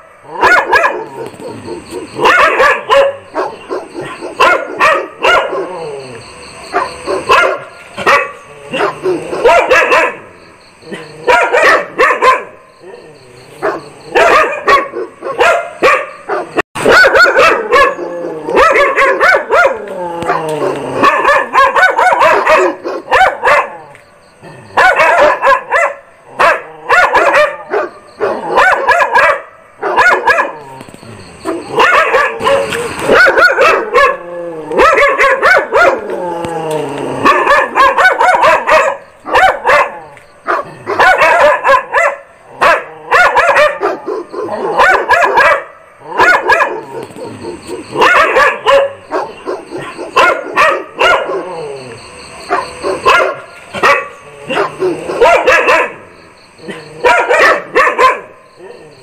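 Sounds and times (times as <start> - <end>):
dog barking loudly: 0.0 - 5.8, 6.6 - 12.7, 13.6 - 23.9, 24.6 - 30.7, 31.3 - 36.2, 37.2 - 51.6, 52.4 - 58.4.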